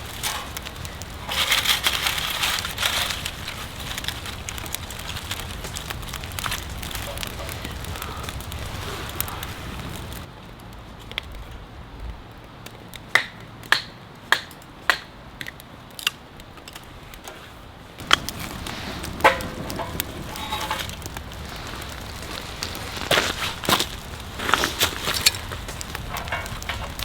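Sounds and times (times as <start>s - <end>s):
firewood crackling and popping: 0.0s - 27.0s.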